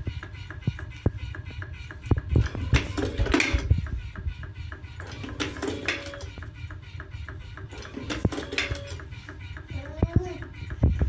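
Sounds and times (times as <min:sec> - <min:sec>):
cigarette rolling machine clicking: 0:00.0 - 0:11.0.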